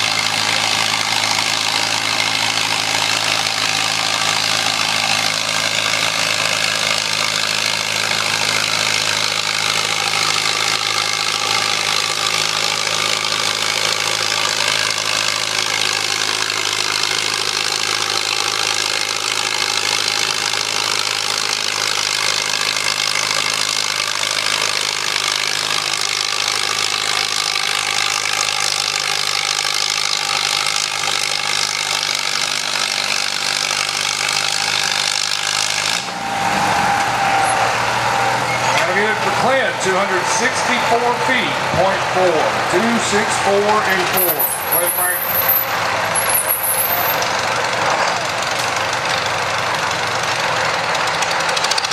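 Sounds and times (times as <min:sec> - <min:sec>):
tractor engine under load: 0:00.0 - 0:51.9.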